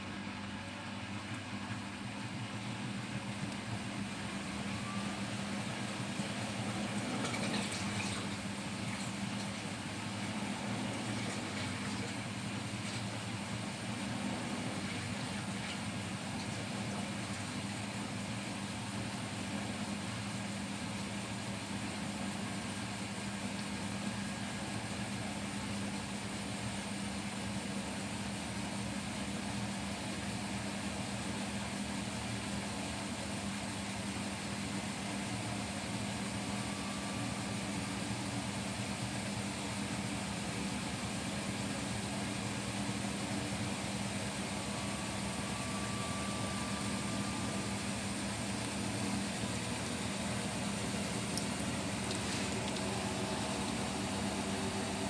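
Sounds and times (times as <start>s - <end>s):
washing machine humming: 0.0s - 55.0s
washing machine whine: 0.0s - 55.0s.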